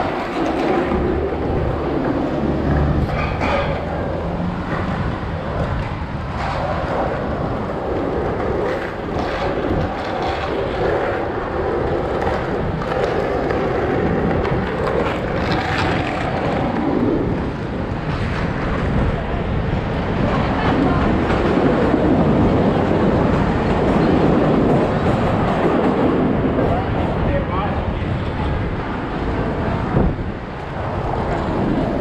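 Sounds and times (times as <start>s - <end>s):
skate wheels rolling on asphalt: 0.0s - 32.0s.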